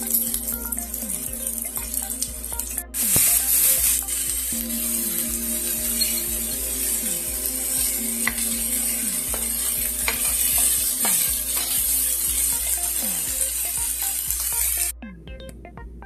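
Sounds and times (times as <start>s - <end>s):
onions sizzling in a frying pan: 0.0s - 14.9s.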